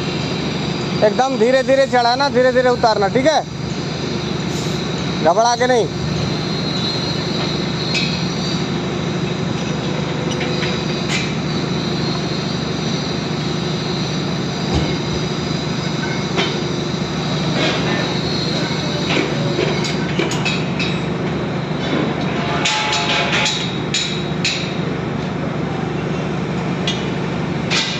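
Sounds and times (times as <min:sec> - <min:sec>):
high squealing whine: 0:00.0 - 0:27.9.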